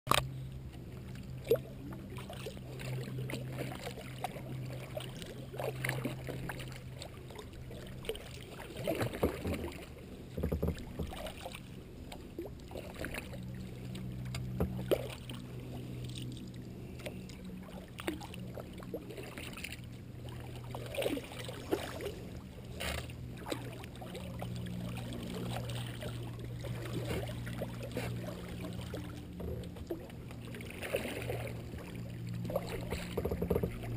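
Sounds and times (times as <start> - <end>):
paddle splashing water: 0.1 - 33.9
steady low hum: 0.1 - 33.9.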